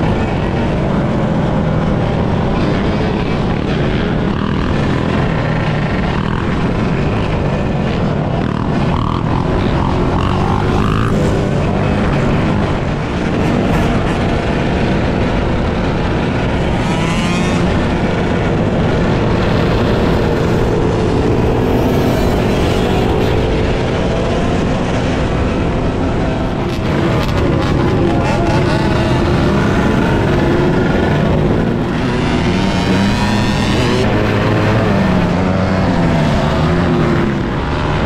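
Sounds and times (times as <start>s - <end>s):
quad bike and dirt bike engines revving: 0.0s - 38.0s.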